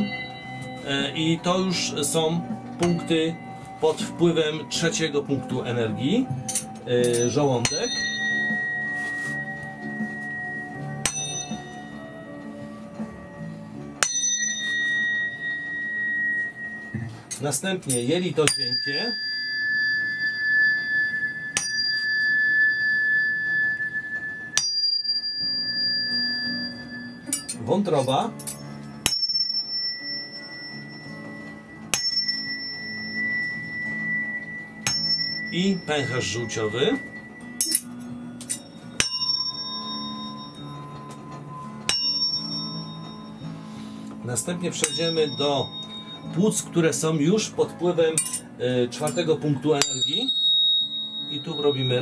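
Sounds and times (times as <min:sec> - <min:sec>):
tuning fork ringing: 0:00.0 - 0:52.0.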